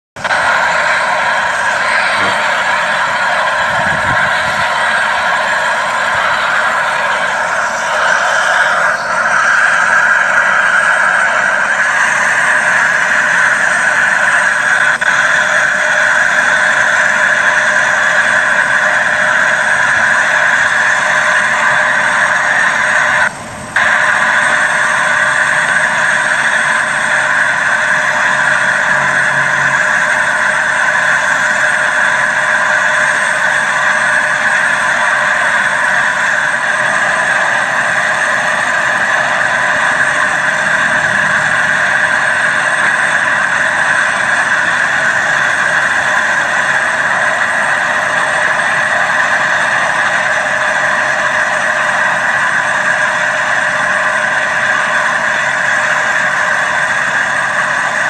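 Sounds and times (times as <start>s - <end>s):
aircraft engine running: 0.2s - 58.0s.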